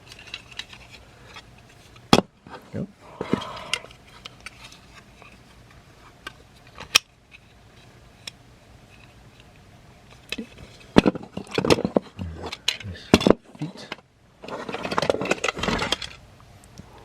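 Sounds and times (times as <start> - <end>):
soft handling noise: 0.0 - 17.0.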